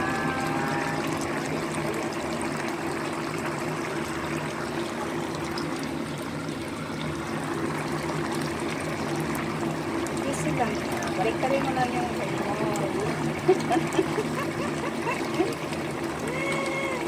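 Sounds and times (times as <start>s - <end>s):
low steady hum: 0.0s - 17.0s
sauce bubbling and sizzling: 0.0s - 17.0s.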